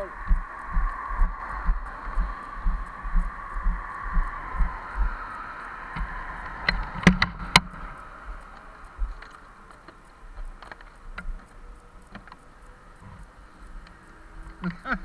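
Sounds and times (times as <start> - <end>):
sharp clicks: 0.0 - 15.0.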